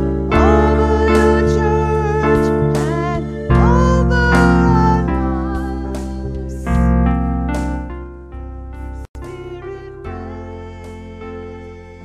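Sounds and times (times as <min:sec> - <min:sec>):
keyboard playing held chords: 0:00.0 - 0:12.0.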